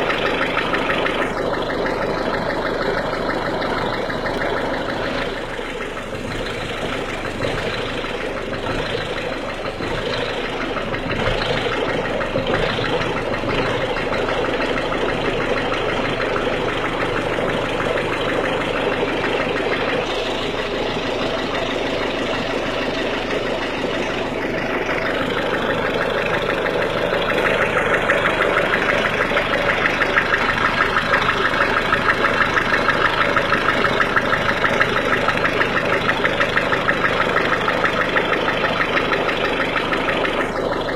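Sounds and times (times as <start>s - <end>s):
diesel engine idling with clatter: 0.0s - 40.9s.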